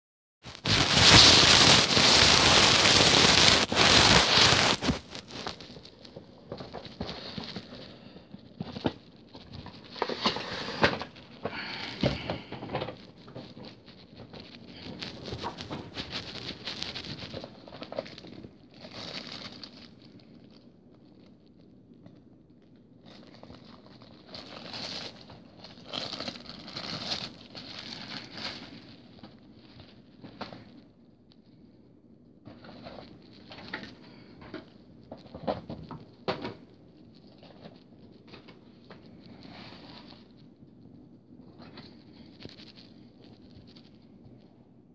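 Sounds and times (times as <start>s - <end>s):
packaging rustling and scraping: 0.5s - 21.4s, 23.0s - 30.9s, 32.4s - 40.5s, 41.4s - 44.5s.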